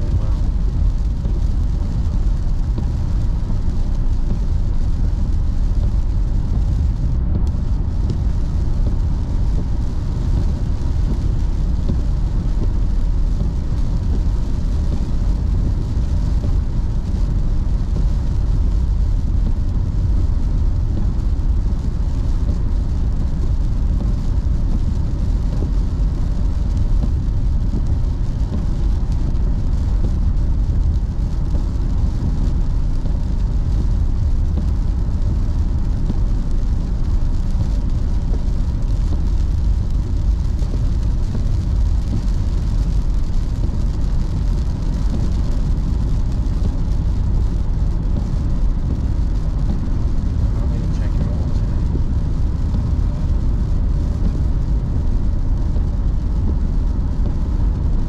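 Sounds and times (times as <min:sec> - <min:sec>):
car engine: 0:00.0 - 0:58.0
tyres rumbling on wet road: 0:00.0 - 0:58.0.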